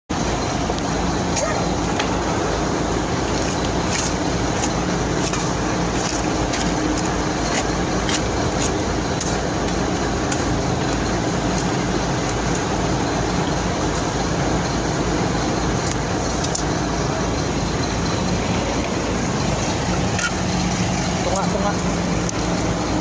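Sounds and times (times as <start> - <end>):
diesel engine running: 0.1 - 23.0.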